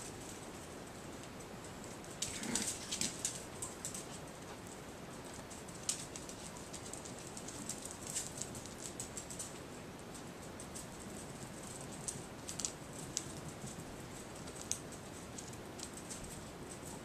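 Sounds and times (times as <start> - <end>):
dog claws clicking on tiled floor: 1.1 - 17.0.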